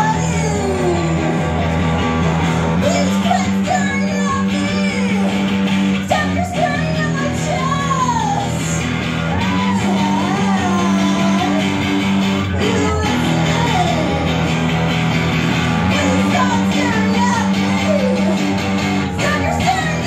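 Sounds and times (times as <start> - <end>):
person singing: 0.0 - 14.9, 15.5 - 20.0
electric guitar: 0.0 - 20.0.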